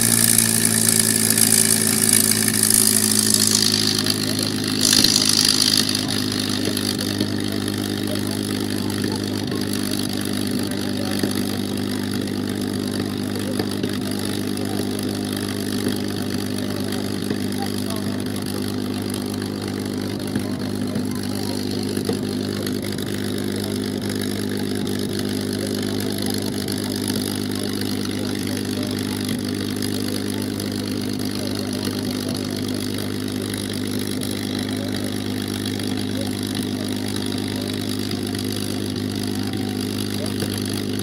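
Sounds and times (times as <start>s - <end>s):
piston aircraft engine idling: 0.0s - 41.0s.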